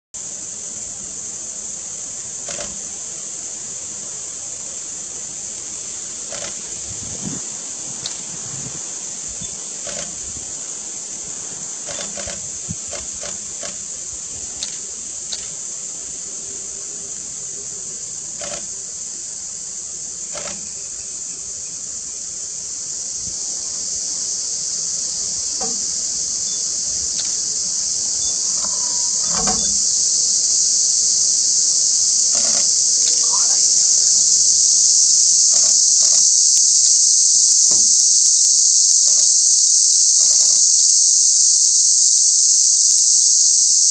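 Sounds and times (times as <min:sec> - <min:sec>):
high-pitched insect chorus: 0:00.2 - 0:43.9.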